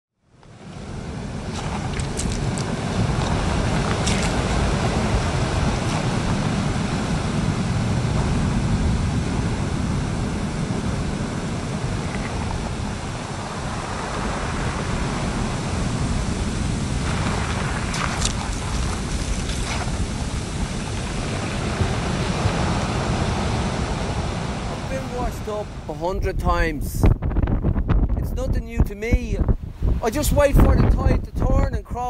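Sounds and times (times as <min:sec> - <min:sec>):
wind rumble on microphone: 0:00.3 - 0:32.0
surf washing over shingle: 0:00.5 - 0:26.8.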